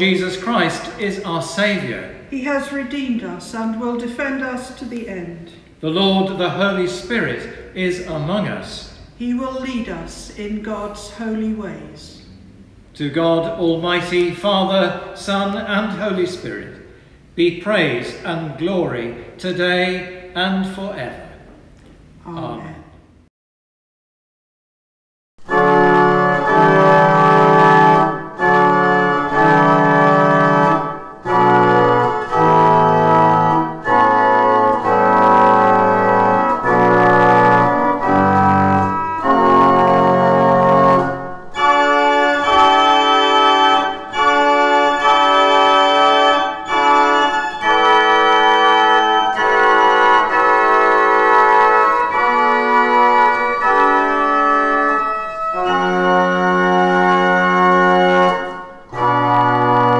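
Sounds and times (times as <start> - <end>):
pipe organ chords: 0.0 - 3.5, 5.7 - 9.9, 12.3 - 21.6, 25.4 - 59.9.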